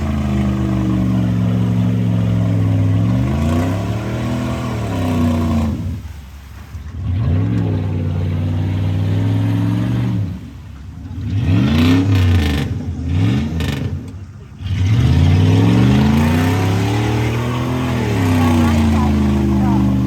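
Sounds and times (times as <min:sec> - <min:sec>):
truck engine revving hard: 0:00.0 - 0:06.1, 0:06.9 - 0:20.0.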